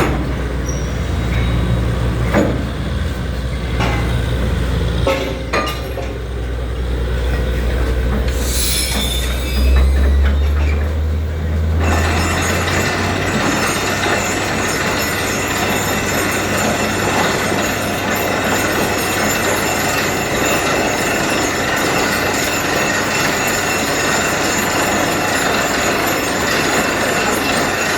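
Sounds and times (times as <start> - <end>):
drilling rig noise with whining: 0.0 - 27.9.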